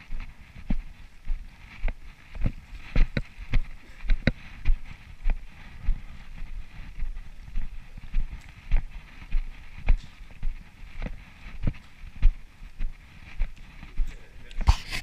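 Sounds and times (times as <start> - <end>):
footsteps on stone paving: 0.0 - 15.0.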